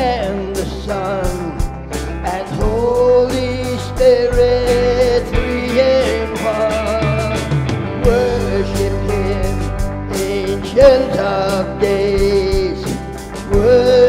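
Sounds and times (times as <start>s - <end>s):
electric bass: 0.0s - 14.0s
worship band music: 0.0s - 14.0s.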